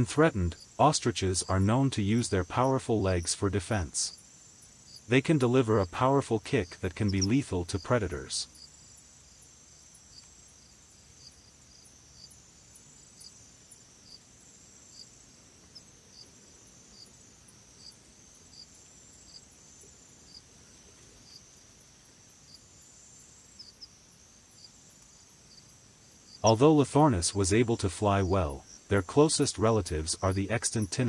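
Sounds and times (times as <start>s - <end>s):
faint insect chorus: 0.0s - 31.0s.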